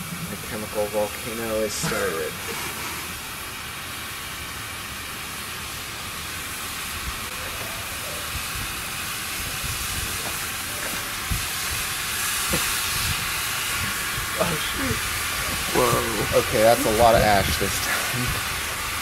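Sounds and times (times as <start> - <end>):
chemical reaction hissing: 0.0 - 19.0.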